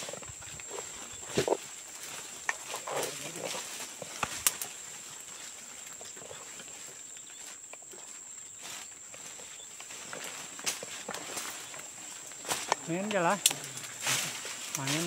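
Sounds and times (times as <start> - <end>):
footsteps in undergrowth: 0.0 - 15.0
rustle of dry stems and leaves: 0.0 - 15.0.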